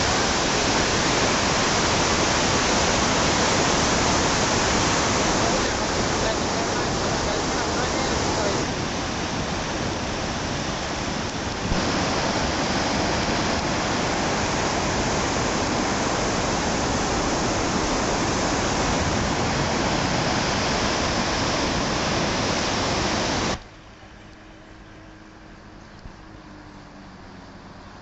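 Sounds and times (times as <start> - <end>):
waterfall rushing: 0.0 - 23.6.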